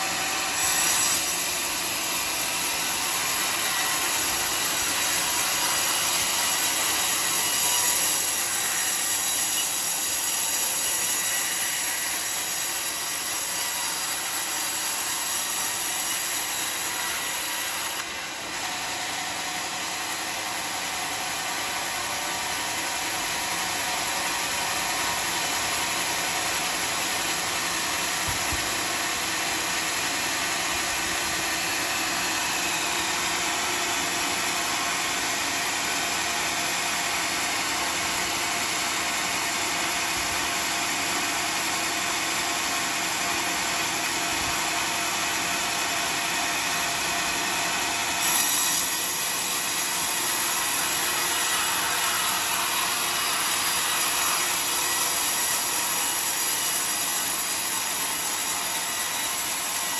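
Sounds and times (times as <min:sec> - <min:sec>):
band sawmill sawing a log: 0:00.0 - 0:59.9.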